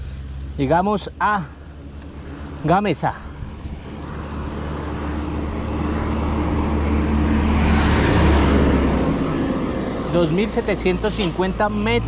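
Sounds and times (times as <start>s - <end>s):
bus diesel engine running: 0.0s - 12.0s
road and wind noise: 0.0s - 12.0s.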